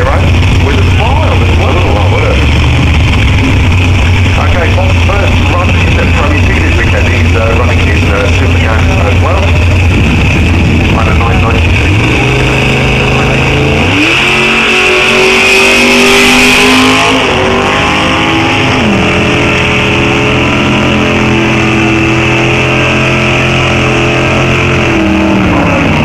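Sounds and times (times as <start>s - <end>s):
drag car engine accelerating: 0.0s - 26.0s.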